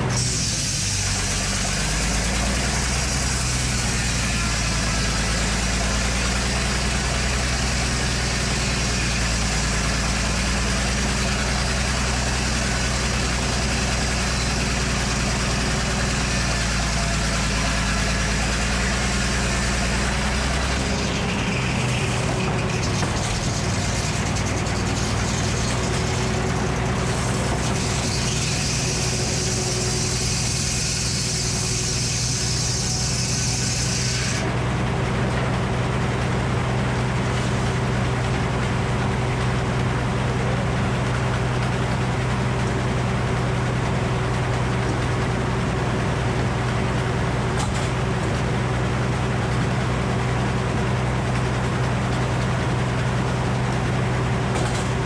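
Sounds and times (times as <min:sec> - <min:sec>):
circular sawmill running: 0:00.0 - 0:55.0.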